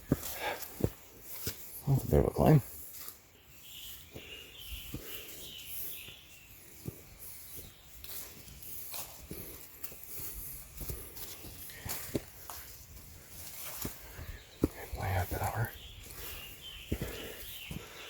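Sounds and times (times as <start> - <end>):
footsteps on leaves and sticks: 0.0 - 18.0.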